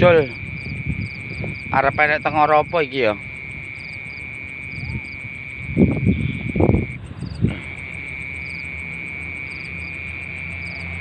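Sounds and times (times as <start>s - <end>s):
fast insect ticking: 0.0s - 11.0s
insect chorus trilling: 0.0s - 11.0s.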